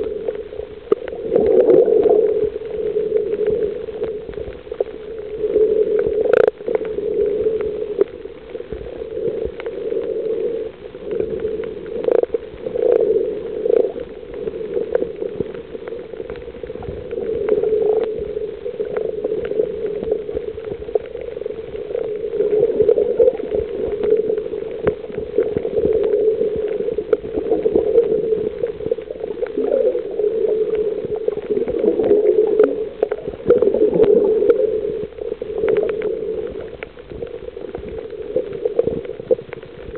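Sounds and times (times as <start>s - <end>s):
underwater watery rush: 0.0s - 39.9s.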